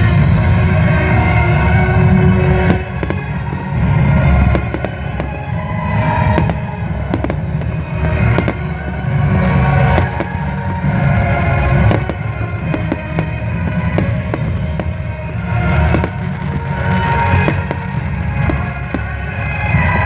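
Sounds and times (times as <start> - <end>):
music playing: 0.0 - 20.0
fireworks bangs: 1.6 - 20.0.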